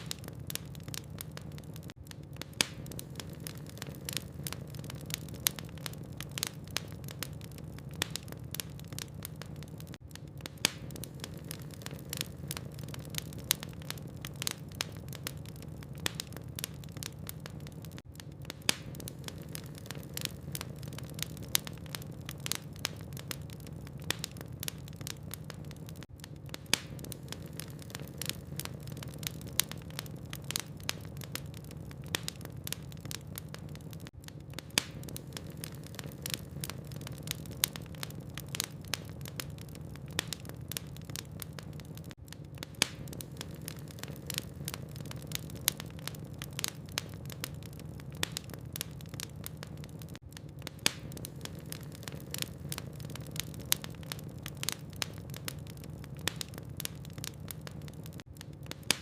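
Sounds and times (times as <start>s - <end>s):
burning wood crackling and popping: 0.0s - 59.0s
log fire rumbling: 0.0s - 59.0s.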